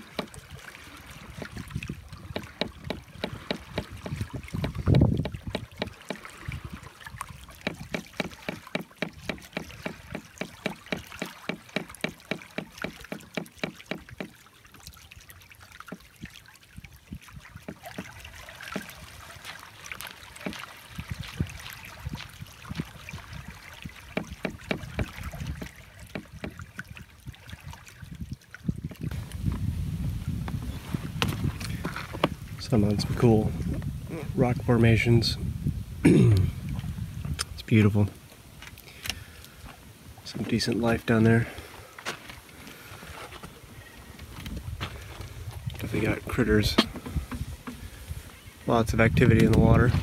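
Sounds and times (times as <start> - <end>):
low wash of water: 0.0 - 50.0
waves slapping against hull: 0.0 - 50.0.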